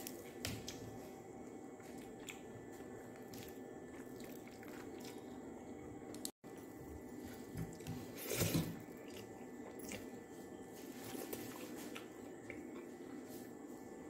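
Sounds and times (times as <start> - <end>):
person chewing food: 0.0 - 6.7, 7.3 - 13.6.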